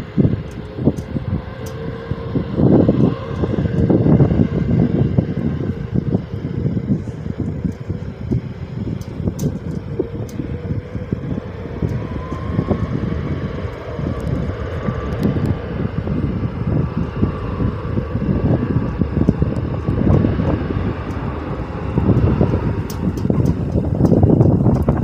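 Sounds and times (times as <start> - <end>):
airplane engines whining: 0.0 - 25.0
wind buffeting microphone: 0.0 - 25.0.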